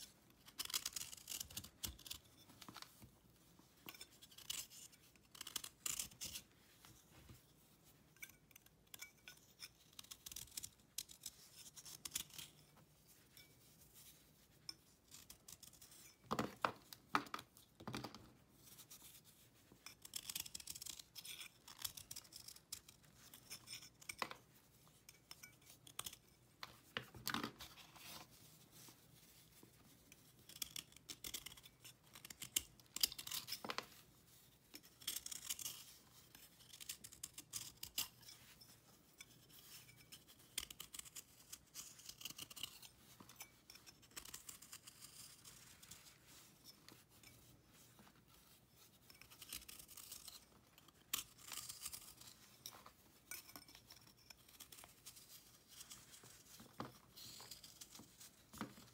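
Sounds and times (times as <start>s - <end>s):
knife blade scraping paste: 0.0s - 2.8s, 3.8s - 6.5s, 8.1s - 16.3s, 18.6s - 26.5s, 29.9s - 58.9s.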